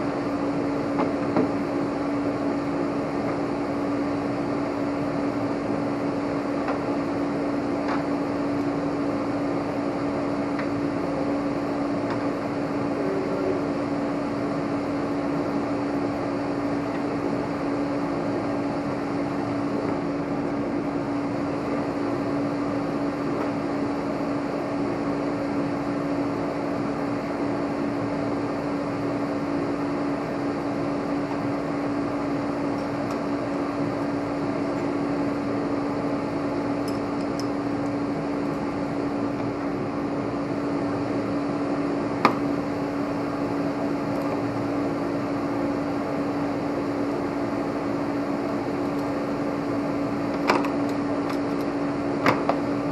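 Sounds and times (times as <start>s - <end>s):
electric motor hum: 0.0s - 52.9s.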